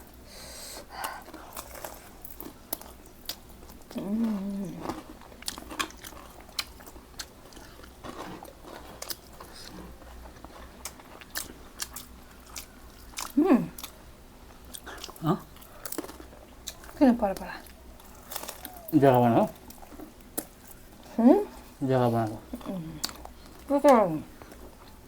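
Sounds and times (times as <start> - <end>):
chewing and crunching: 0.8 - 25.0.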